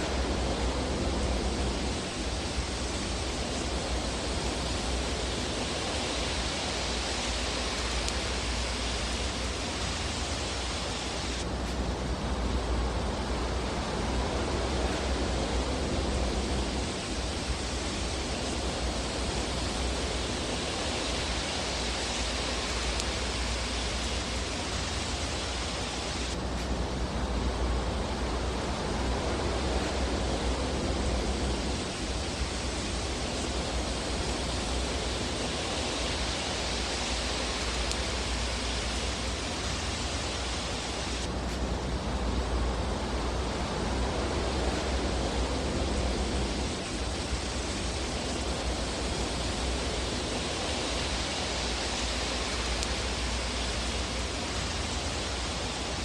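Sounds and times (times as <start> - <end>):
fire burning with hiss: 0.0 - 56.0.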